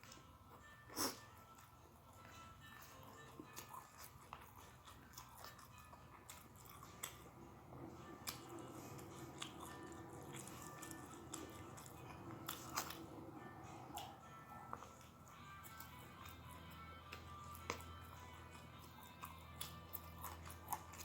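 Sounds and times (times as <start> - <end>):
faint background music: 0.0 - 21.0
person chewing crunchy food: 0.0 - 21.0.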